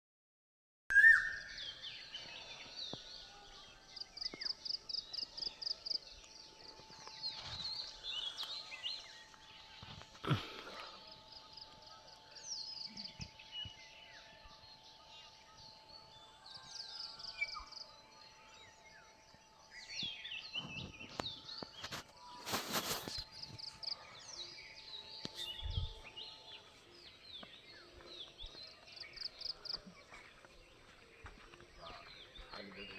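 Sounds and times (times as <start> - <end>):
small birds chirping and trilling: 0.9 - 32.9.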